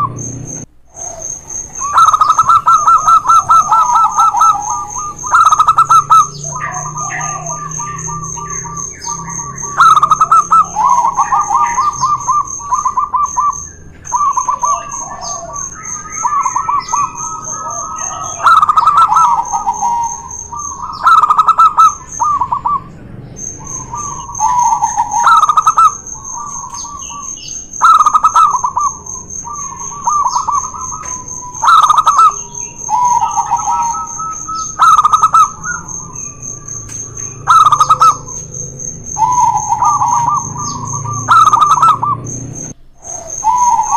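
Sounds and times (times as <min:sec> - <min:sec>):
doves cooing trills: 0:00.0 - 0:43.9.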